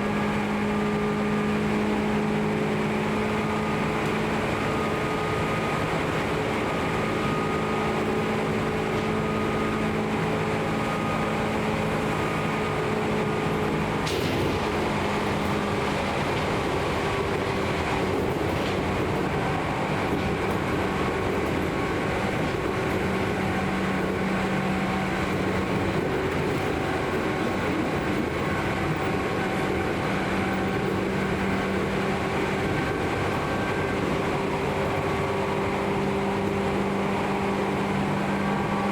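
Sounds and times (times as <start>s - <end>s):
wheel and rail rumble: 0.0s - 38.9s.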